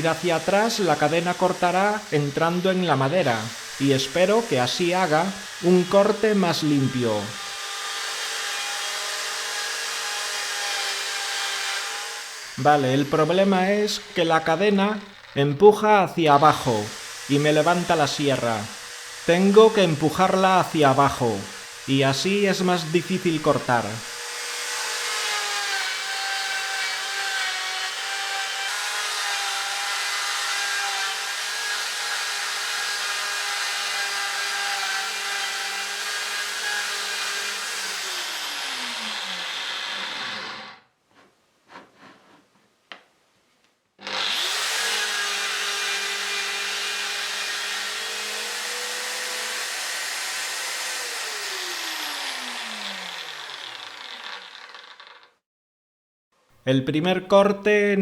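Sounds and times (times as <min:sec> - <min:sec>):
saw cutting wood: 0:00.0 - 0:40.9, 0:44.0 - 0:55.4.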